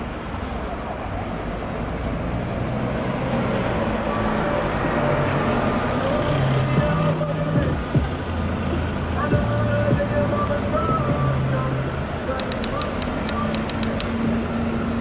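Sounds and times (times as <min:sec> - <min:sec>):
car engines humming: 0:00.0 - 0:15.0.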